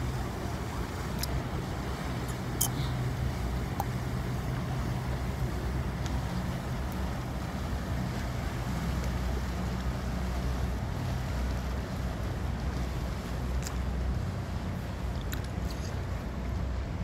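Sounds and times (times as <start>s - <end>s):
faint wash of noise: 0.0s - 17.0s
outboard motor humming: 0.0s - 17.0s.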